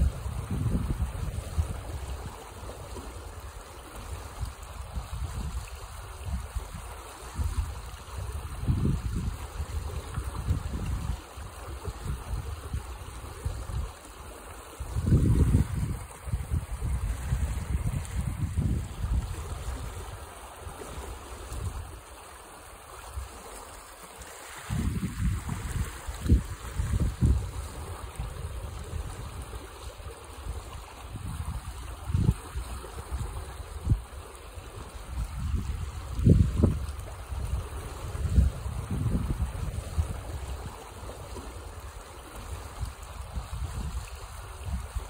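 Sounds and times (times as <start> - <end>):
wind rumble on microphone: 0.0 - 14.1, 14.7 - 22.1, 24.5 - 45.0
water rushing along a channel: 0.0 - 45.0.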